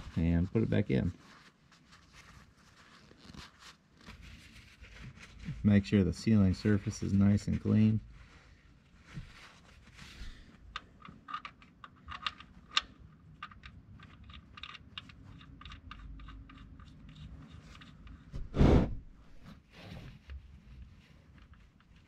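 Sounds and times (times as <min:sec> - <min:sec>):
light clicks and rubbing: 0:00.0 - 0:18.4, 0:19.3 - 0:22.0.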